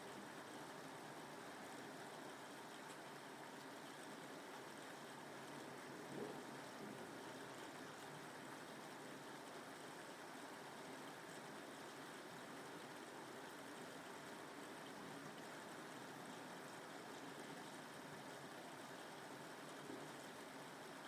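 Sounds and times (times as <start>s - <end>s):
steady rain falling: 0.1s - 21.0s.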